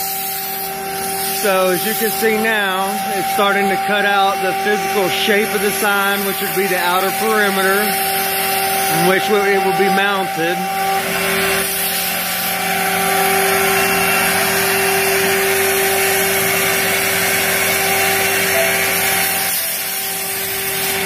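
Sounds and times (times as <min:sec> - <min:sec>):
hiss of cutting: 0:00.0 - 0:21.0
router spindle whine: 0:00.0 - 0:21.0.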